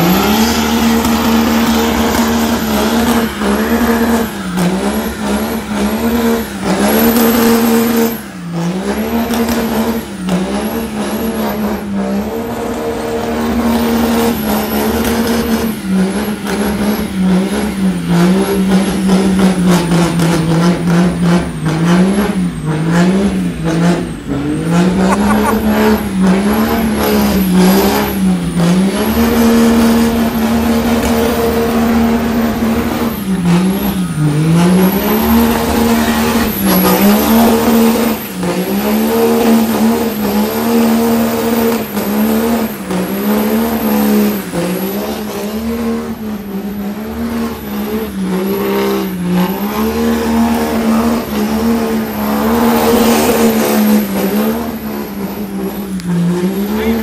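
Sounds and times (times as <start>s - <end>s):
diesel engine at high revs: 0.0s - 57.0s.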